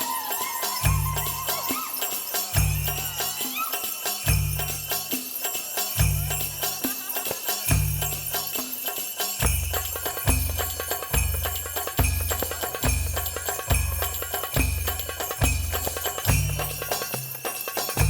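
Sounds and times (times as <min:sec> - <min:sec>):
high jingling percussion: 0:00.0 - 0:18.0.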